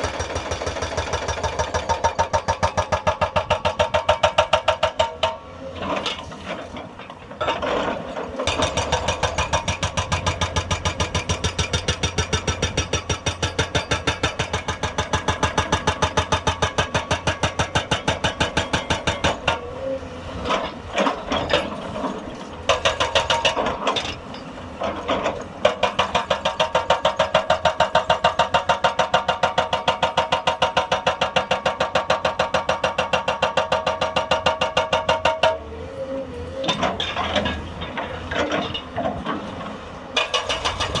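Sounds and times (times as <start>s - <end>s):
hydraulic rock breaker hammering: 0.0s - 35.7s, 36.6s - 41.0s.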